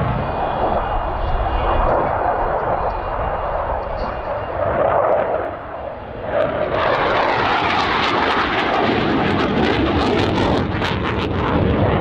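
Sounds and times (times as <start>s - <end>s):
jet flying past roaring: 0.0s - 12.0s.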